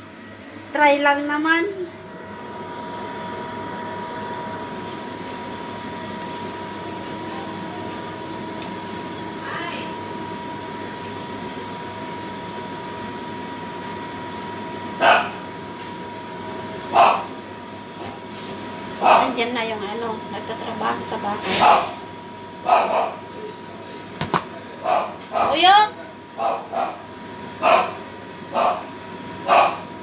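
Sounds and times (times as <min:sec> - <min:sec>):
machine hum with whine: 0:00.0 - 0:30.0.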